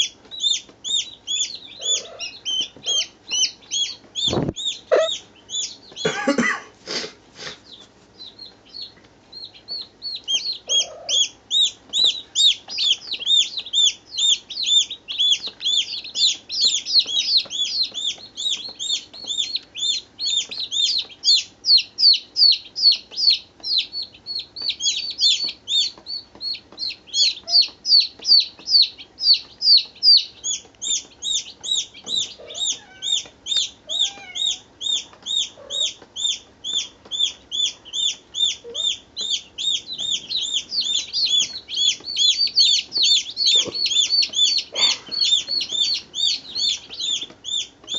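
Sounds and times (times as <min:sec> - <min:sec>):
baby chicks peeping: 0:00.0 - 0:47.9.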